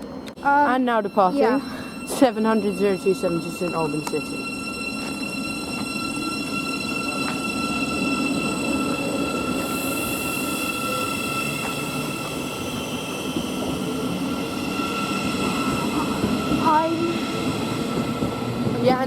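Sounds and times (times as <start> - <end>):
electric train rumbling: 0.0 - 19.0
high-pitched whining tones: 0.0 - 19.0.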